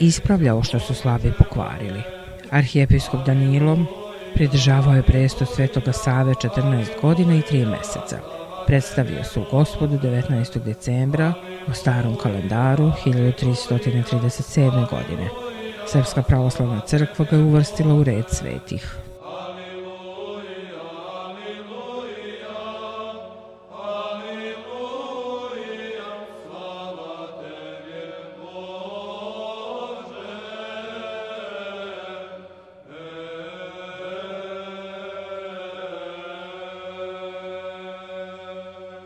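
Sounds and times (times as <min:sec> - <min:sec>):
slow church chant singing: 0:00.0 - 0:39.0.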